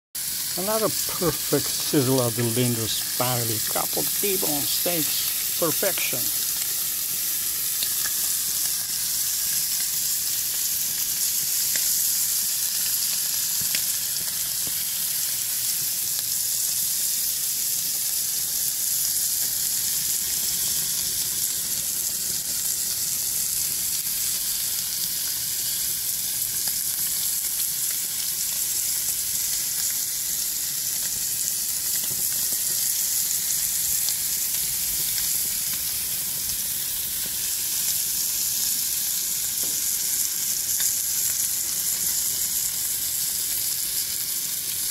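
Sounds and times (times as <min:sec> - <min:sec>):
steaks sizzling on a grill: 0:00.2 - 0:44.9.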